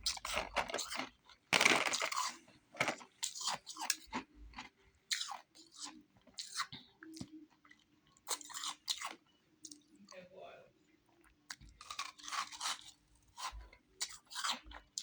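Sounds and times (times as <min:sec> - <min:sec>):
ice being chewed: 0:00.0 - 0:09.8, 0:11.6 - 0:15.0.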